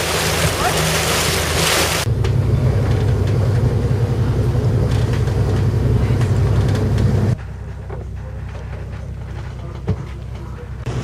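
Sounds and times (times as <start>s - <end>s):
ship engine droning: 0.0s - 11.0s.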